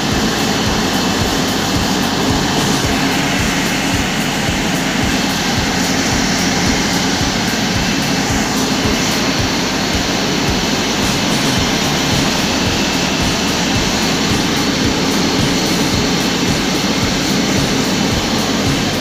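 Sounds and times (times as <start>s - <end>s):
wire machine mechanical din: 0.0s - 19.0s.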